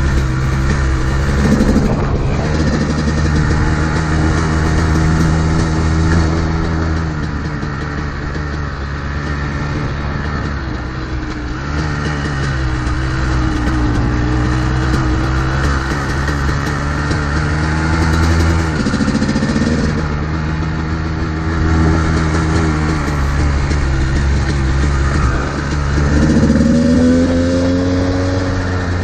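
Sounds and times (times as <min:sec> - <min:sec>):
two-stroke dirt bike engine: 0:00.0 - 0:29.0.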